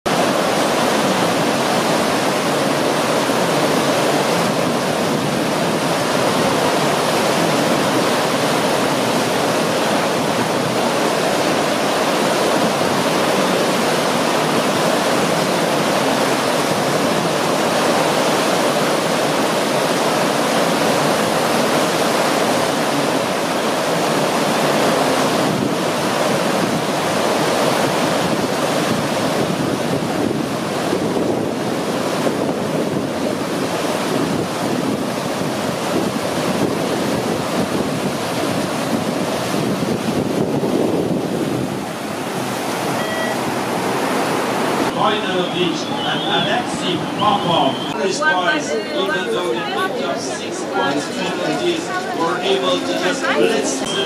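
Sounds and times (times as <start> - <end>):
whitewater rapids rushing: 0.1 - 54.0.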